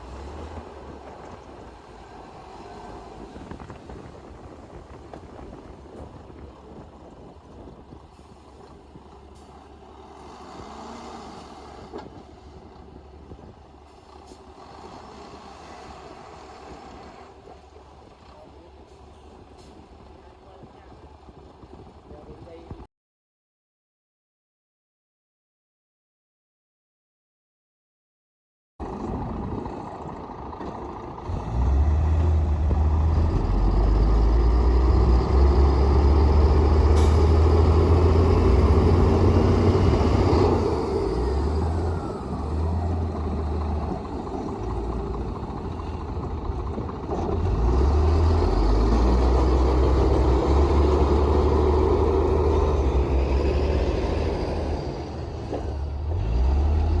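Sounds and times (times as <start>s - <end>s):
bulldozer diesel engine droning: 0.0s - 22.1s, 28.8s - 57.0s.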